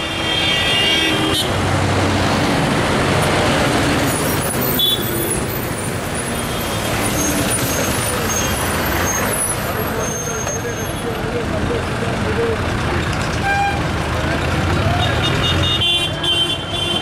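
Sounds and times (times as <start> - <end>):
street traffic passing: 0.0 - 17.0.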